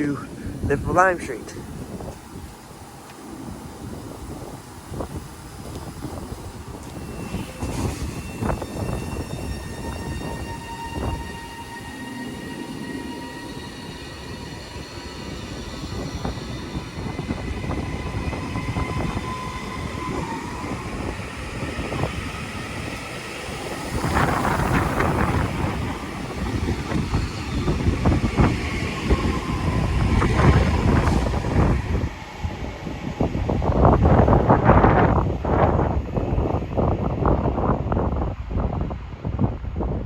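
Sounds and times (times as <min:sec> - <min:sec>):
electric train whining: 0:00.0 - 0:40.0
wheel and rail rumbling: 0:01.4 - 0:39.3.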